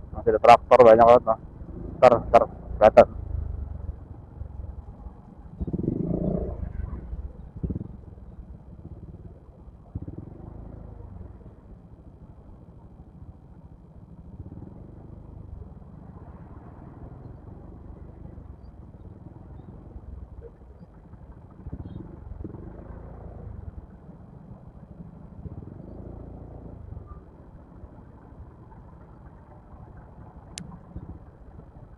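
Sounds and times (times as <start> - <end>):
scooter road and engine rumble: 0.0 - 31.9.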